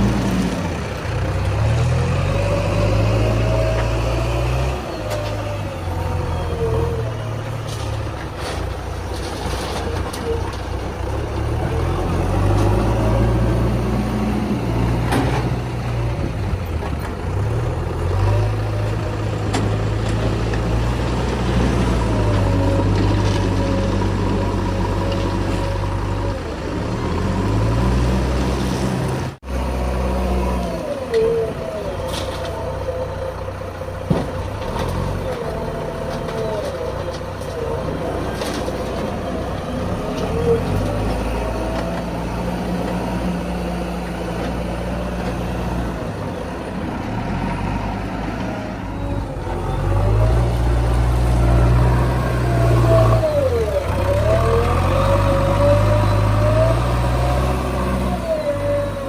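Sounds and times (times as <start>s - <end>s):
backhoe diesel engine digging: 0.0s - 59.0s.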